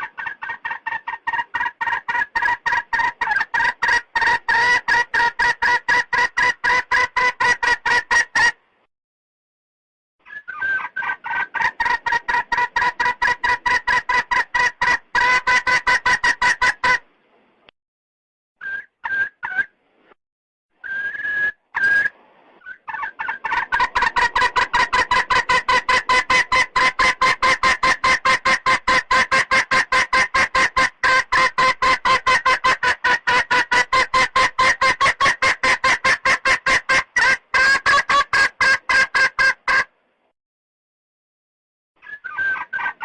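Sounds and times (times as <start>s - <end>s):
hen clucking rapidly: 0.0s - 8.5s, 10.3s - 17.0s, 21.8s - 39.9s, 42.0s - 43.0s.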